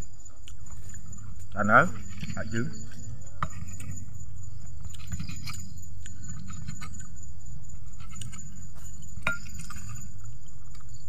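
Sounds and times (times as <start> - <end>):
eating at a table: 0.0 - 11.0
high insect drone: 0.0 - 11.0.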